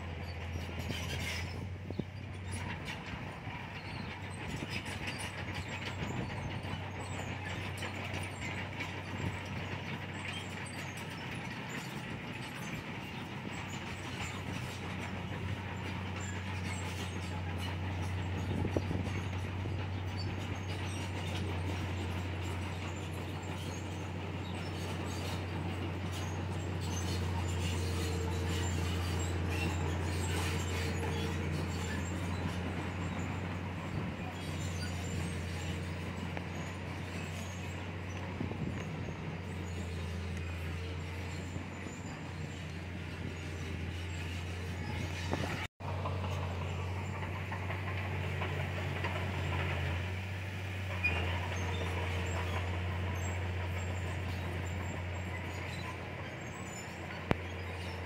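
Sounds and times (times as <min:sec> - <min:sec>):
bulldozer diesel engine droning: 0:00.0 - 0:58.0
steel tracks clanking: 0:00.0 - 0:58.0.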